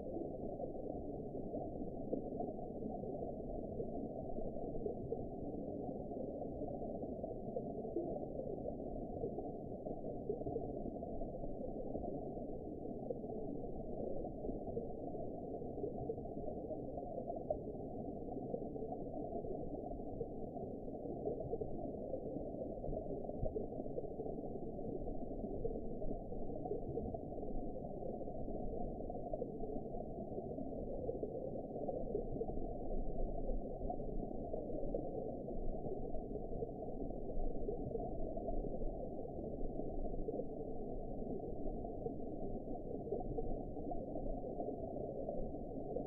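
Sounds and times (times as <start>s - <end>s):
muffled underwater rushing: 0.0s - 46.0s.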